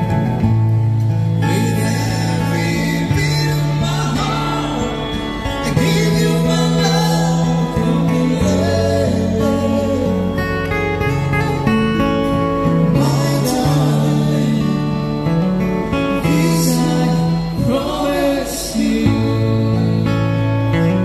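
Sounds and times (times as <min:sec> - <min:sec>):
acoustic guitars strummed: 0:00.0 - 0:21.0
man singing: 0:01.4 - 0:21.0.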